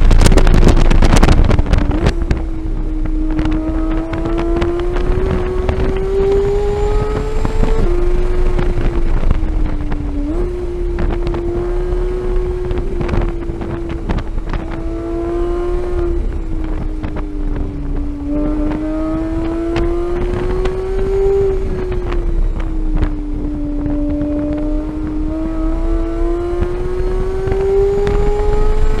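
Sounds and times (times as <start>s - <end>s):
car engine at high revs: 0.0s - 29.0s
wind rushing over microphone: 0.0s - 29.0s.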